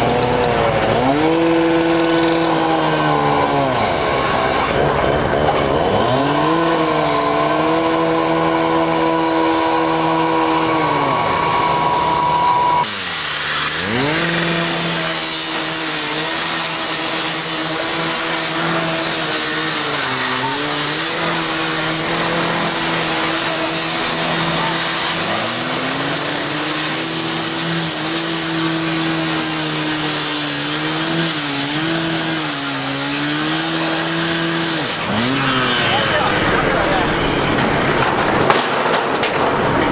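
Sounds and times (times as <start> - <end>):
gas-powered saw revving: 0.0 - 38.9.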